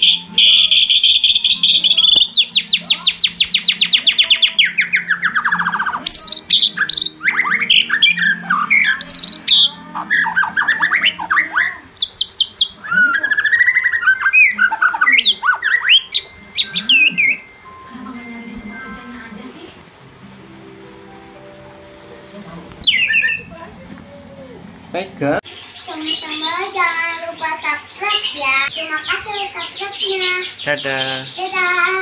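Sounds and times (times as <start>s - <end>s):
songbird singing: 0.0s - 32.0s.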